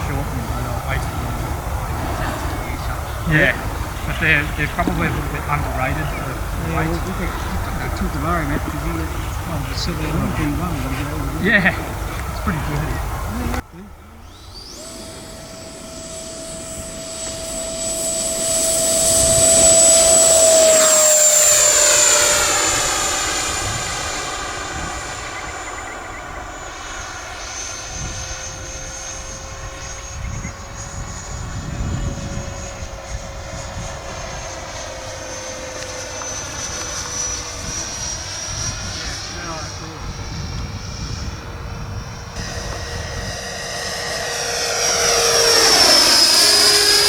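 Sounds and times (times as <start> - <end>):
model jet whining past: 0.0 - 47.0.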